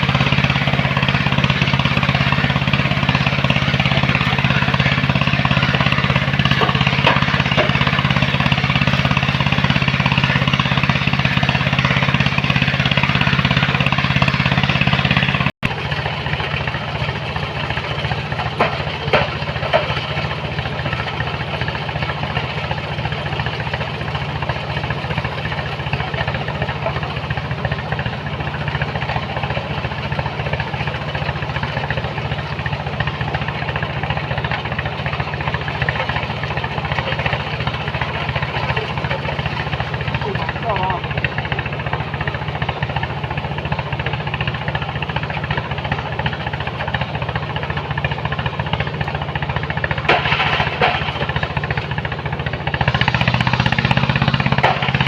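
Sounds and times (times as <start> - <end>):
heavy machinery engine running: 0.0 - 55.0
quieter engine hum: 0.0 - 55.0.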